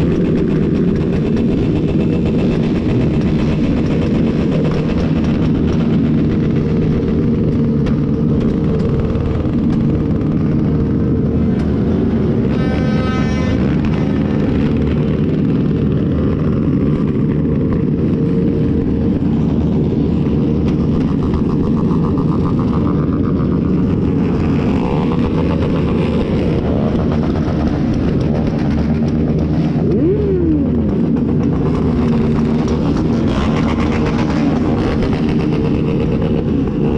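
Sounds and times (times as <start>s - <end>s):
engine revving: 0.0s - 36.9s
traffic engines running: 0.0s - 36.9s.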